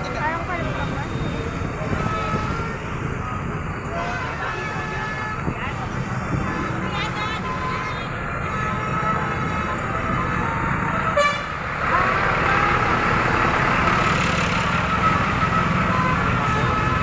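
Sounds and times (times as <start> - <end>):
bus engines running: 0.0 - 17.0
multi-tone bus horns: 0.0 - 17.0.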